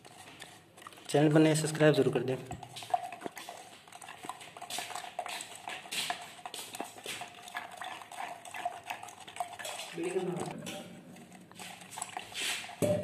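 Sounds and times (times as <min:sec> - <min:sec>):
stirrer scraping a metal pot: 0:00.0 - 0:13.0.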